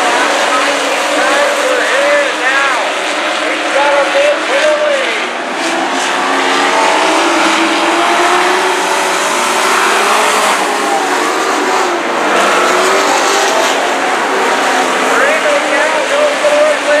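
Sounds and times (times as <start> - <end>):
race truck engines passing: 0.0 - 17.0.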